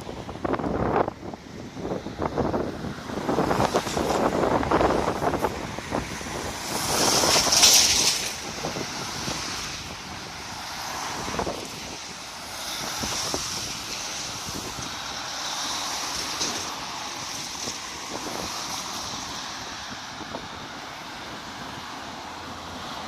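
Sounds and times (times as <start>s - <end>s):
road traffic passing: 0.0s - 23.0s
wind noise on microphone: 0.0s - 23.0s.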